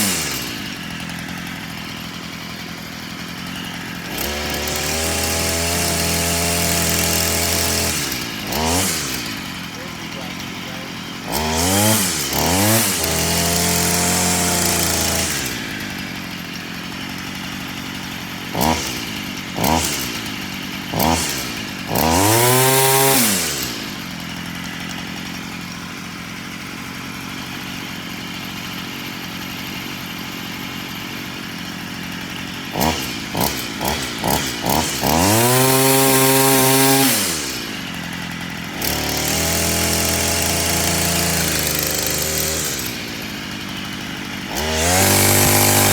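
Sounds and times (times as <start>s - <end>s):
string trimmer engine revving: 0.0s - 45.9s.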